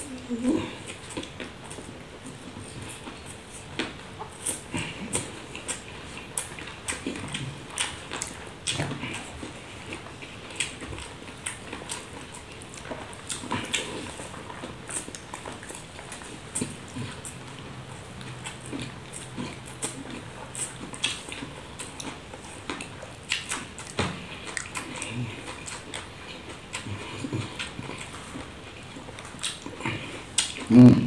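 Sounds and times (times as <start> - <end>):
person chewing and lip-smacking: 0.0 - 31.0.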